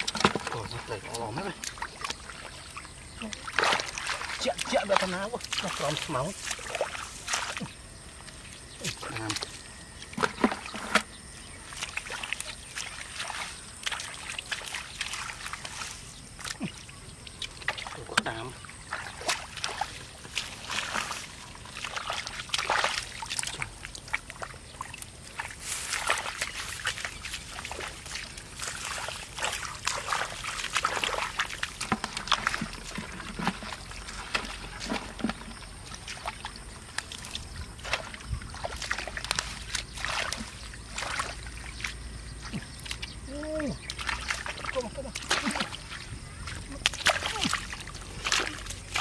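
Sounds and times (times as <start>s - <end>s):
hands squelching through mud: 0.0s - 49.0s
muddy water splashing: 0.0s - 49.0s.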